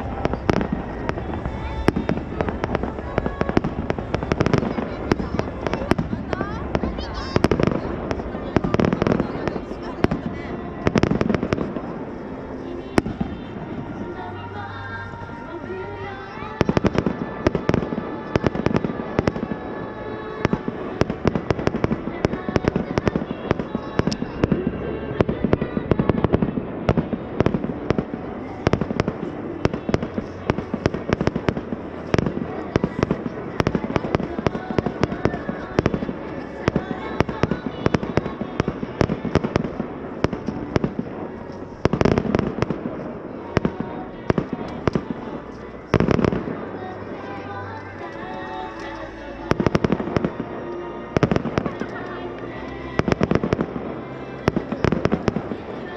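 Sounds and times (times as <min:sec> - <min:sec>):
fireworks bangs and crackles: 0:00.0 - 0:14.3, 0:15.9 - 0:55.9.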